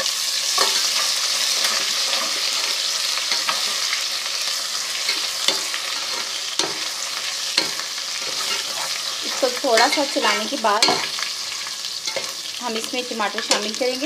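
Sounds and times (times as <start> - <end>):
onions sizzling in a pot: 0.0 - 14.0.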